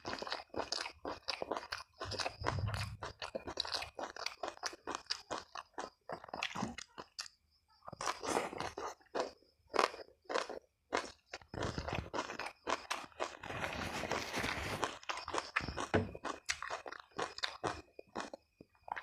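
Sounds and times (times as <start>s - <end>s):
crunchy chewing: 0.0s - 19.0s.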